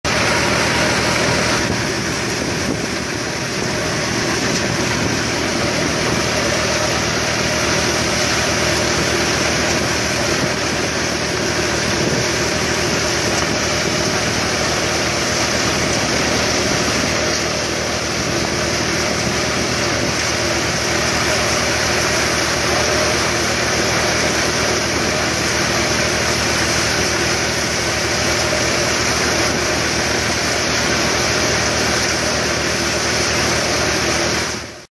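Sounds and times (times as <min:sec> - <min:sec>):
tractor engine drone: 0:00.0 - 0:34.9
straw and chaff hissing out: 0:00.1 - 0:34.8
threshing drum whirring: 0:00.1 - 0:34.9.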